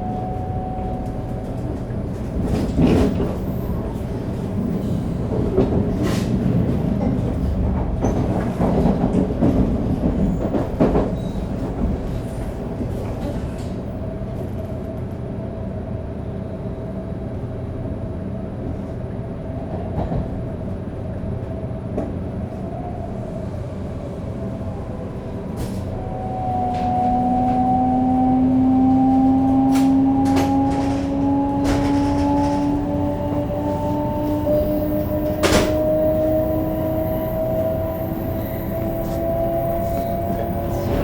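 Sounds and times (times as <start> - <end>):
train inverter whine: 0.0 - 41.0
train rolling noise: 0.0 - 41.0.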